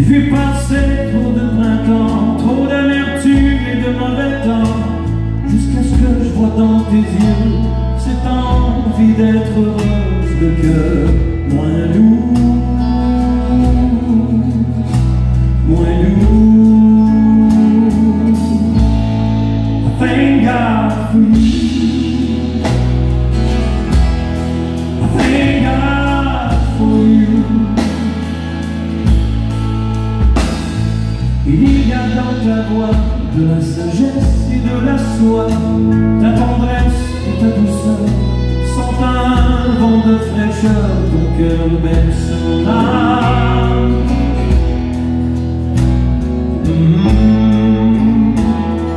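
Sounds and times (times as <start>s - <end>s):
man singing: 0.0s - 24.2s, 24.8s - 29.2s, 30.8s - 48.9s
acoustic guitar: 0.0s - 48.9s
drums: 0.0s - 48.9s
electric guitars: 0.0s - 48.9s.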